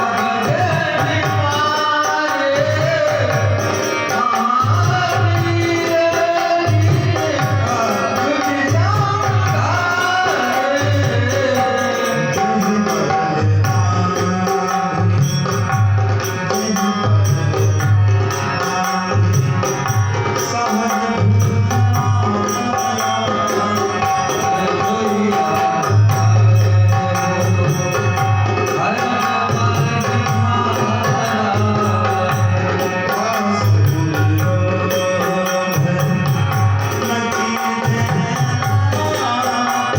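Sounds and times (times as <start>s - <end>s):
hand drum rhythm: 0.0s - 39.9s
person singing devotional melody: 0.0s - 39.9s.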